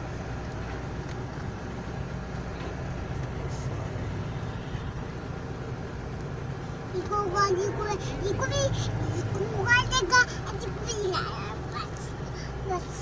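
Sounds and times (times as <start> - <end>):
car cabin engine and road rumble: 0.0 - 13.0.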